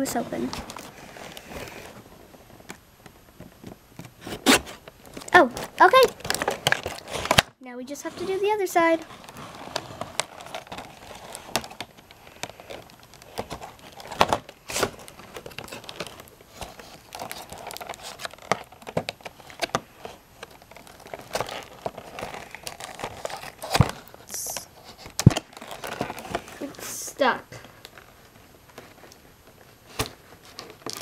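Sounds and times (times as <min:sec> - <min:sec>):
cardboard box crinkling: 0:00.0 - 0:02.6, 0:03.2 - 0:26.8, 0:27.6 - 0:31.0.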